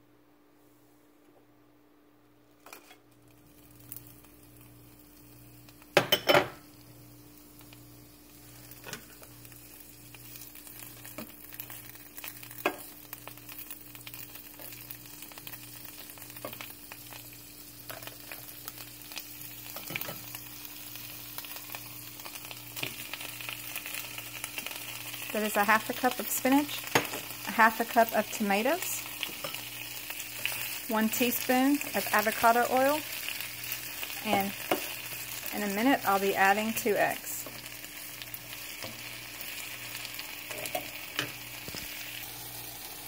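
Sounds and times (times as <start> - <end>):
oil sizzling in frying pan: 2.6 - 43.0.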